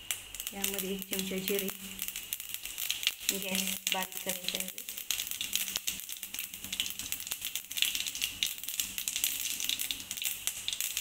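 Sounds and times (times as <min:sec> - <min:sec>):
seeds crackling in hot oil: 0:00.0 - 0:11.0.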